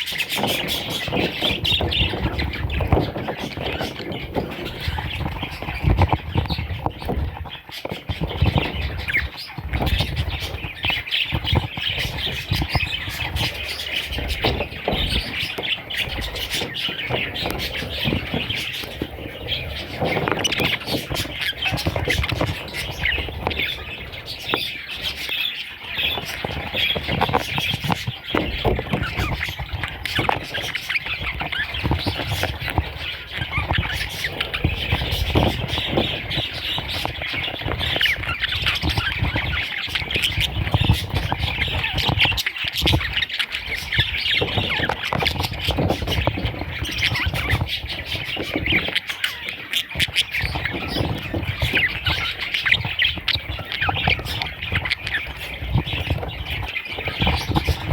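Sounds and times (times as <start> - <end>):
baby budgerigars squawking: 0.0 - 57.9.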